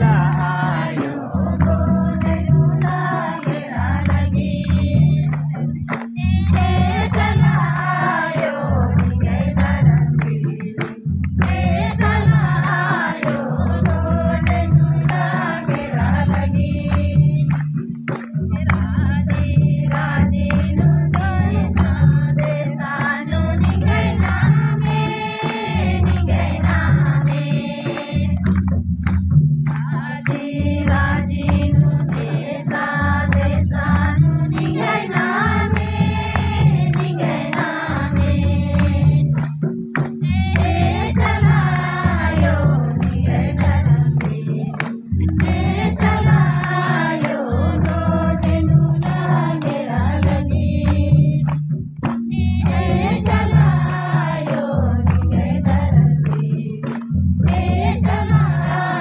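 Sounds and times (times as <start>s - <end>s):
low drum beat: 0.0s - 59.0s
person singing devotional song: 0.0s - 59.0s.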